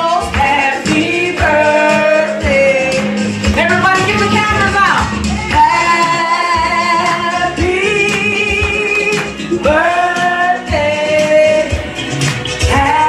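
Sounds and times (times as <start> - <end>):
woman singing through speaker: 0.0 - 11.8, 12.6 - 13.0
backing music: 0.0 - 13.0.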